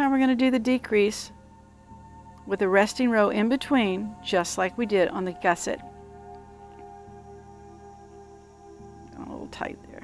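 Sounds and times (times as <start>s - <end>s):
quiet music of held tones: 0.0s - 10.0s.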